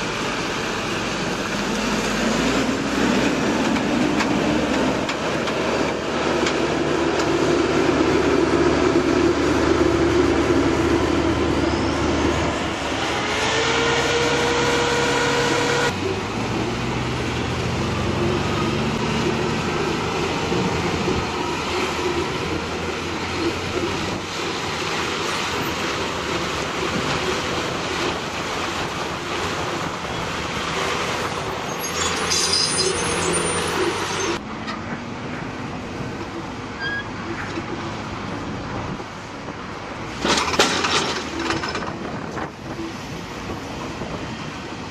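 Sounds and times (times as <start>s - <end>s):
excavator diesel engine under load: 0.0s - 44.9s.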